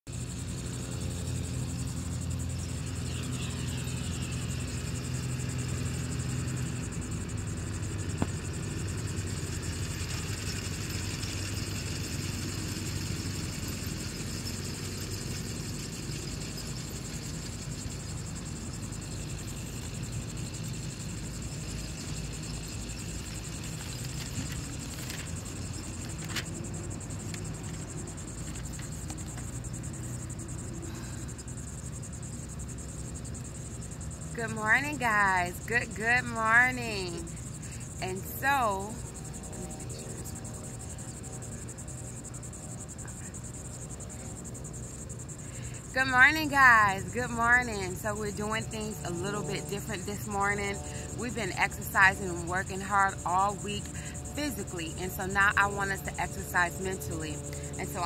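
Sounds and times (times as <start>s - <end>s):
continuous low rumble: 0.1s - 58.0s
insects chirring: 0.1s - 58.0s.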